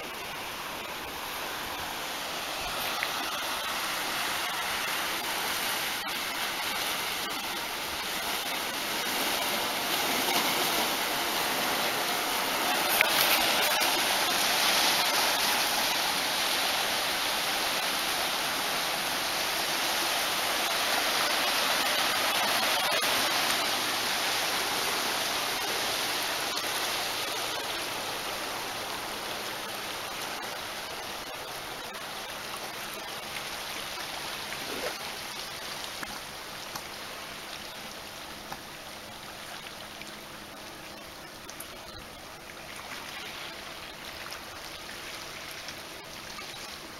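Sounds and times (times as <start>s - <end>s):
sea water rushing over shore: 0.0s - 46.9s.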